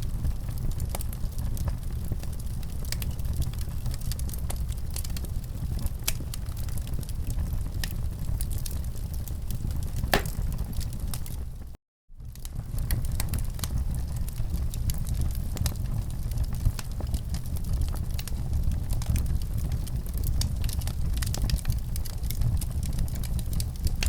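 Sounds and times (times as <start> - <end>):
wood fire crackling: 0.1 - 11.7, 12.4 - 24.0.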